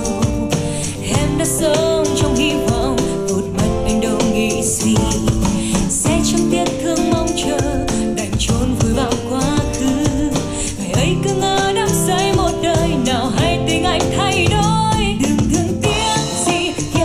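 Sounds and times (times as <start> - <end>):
song with sung melody and beat: 0.0 - 17.0.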